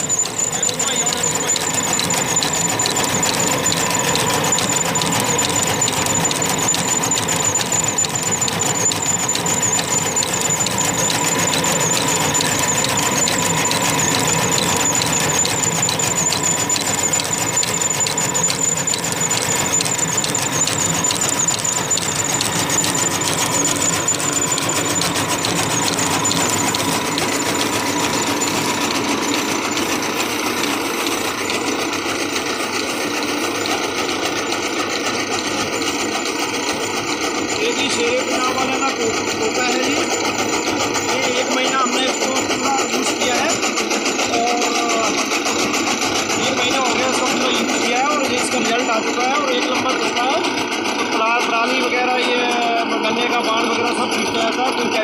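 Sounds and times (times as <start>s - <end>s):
chaff cutter clattering: 0.0s - 44.2s
high machine whine: 0.0s - 55.0s.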